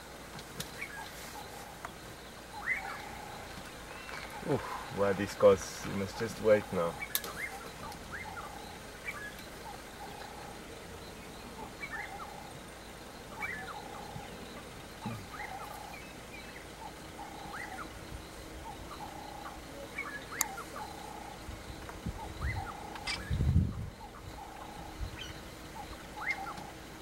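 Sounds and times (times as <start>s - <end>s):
bird chirping calls: 0.6s - 27.0s.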